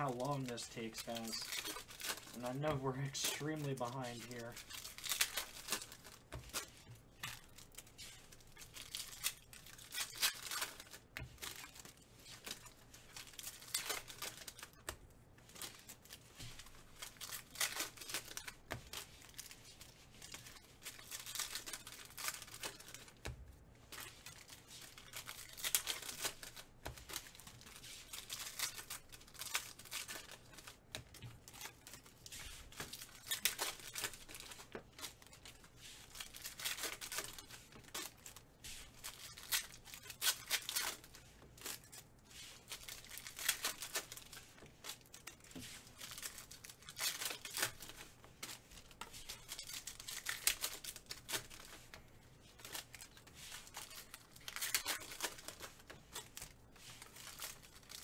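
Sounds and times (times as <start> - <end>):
foil wrappers tearing and crinkling: 0.0 - 58.0.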